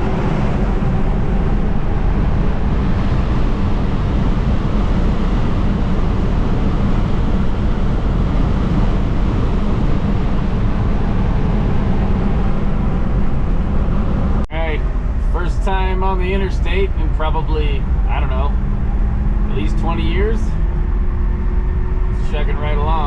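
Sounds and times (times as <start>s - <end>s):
car engine drone: 0.0s - 23.0s
road and wind noise: 0.0s - 23.0s.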